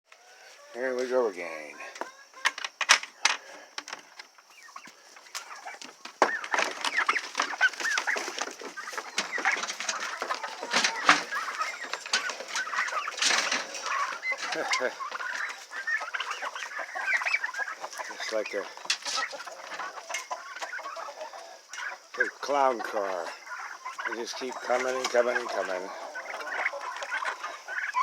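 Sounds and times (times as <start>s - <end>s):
chickens clucking: 0.1s - 28.0s.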